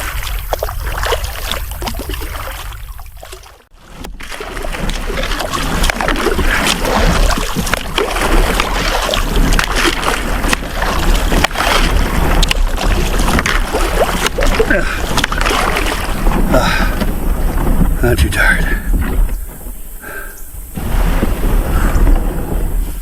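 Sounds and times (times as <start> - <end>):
paddle knocks and splashes: 0.0 - 20.0
water rushing and splashing: 0.0 - 22.6
wind rumble on microphone: 0.0 - 23.0.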